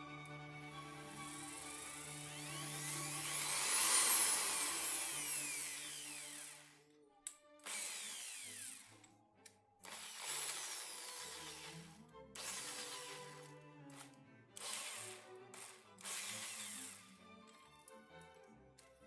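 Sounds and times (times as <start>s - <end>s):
electric drill motor whine: 0.0s - 6.9s, 7.6s - 9.1s, 9.8s - 18.3s
background music: 0.0s - 19.0s.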